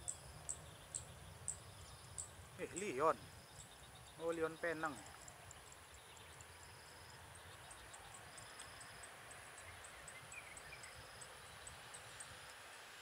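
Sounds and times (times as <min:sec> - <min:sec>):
insects ticking: 0:00.0 - 0:13.0.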